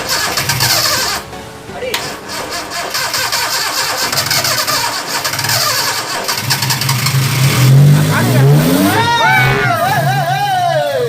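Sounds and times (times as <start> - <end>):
engine cranking by starter motor: 0.0 - 1.3, 1.9 - 10.2.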